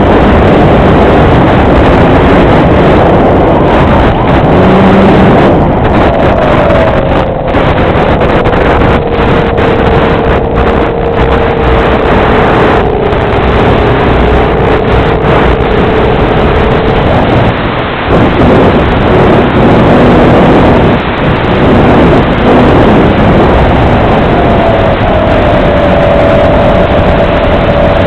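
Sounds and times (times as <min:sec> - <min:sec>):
electric motor and propeller whine: 0:00.0 - 0:20.9, 0:21.5 - 0:28.0
loud wind rush: 0:00.0 - 0:28.0
rough distorted noise: 0:00.0 - 0:28.0.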